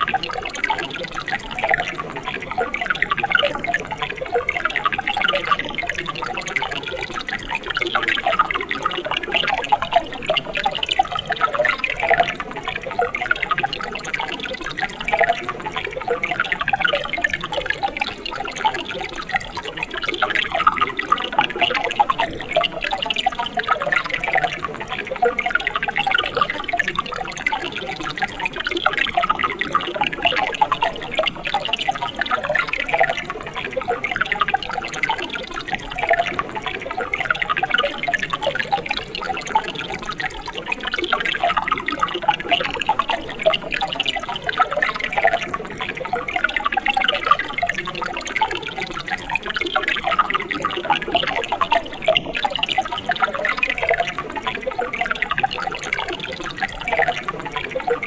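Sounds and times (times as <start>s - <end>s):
stream water babbling: 0.0s - 58.0s.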